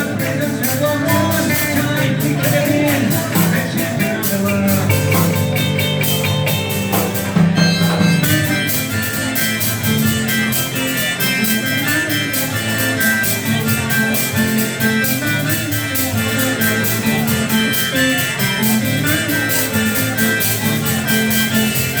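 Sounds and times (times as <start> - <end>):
music with steady beat: 0.0 - 22.0.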